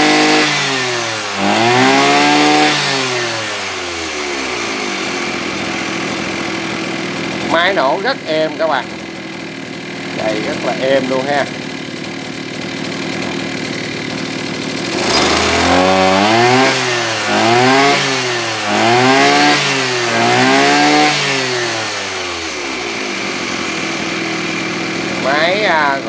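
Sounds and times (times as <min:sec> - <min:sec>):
brush cutter engine revving: 0:00.0 - 0:26.0.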